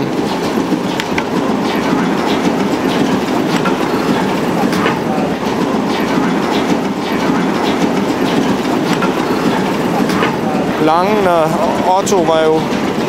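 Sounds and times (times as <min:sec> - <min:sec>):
engine mechanical clatter: 0:00.0 - 0:13.0.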